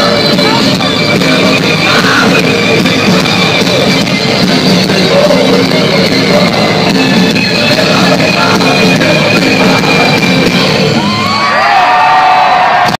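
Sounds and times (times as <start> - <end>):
drums: 0.0 - 12.9
electric guitars: 0.0 - 12.9
metal band playing live: 0.0 - 12.9.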